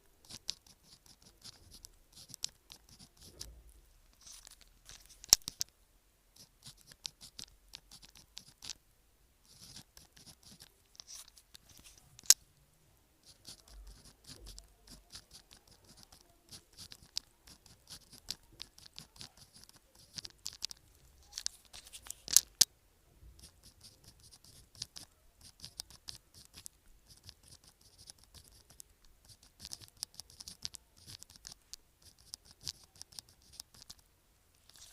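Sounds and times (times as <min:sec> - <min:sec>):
pen scratching on paper: 0:00.2 - 0:03.5, 0:04.1 - 0:05.6, 0:06.4 - 0:08.8, 0:09.4 - 0:12.3, 0:13.2 - 0:22.5, 0:23.4 - 0:34.0, 0:34.6 - 0:34.9.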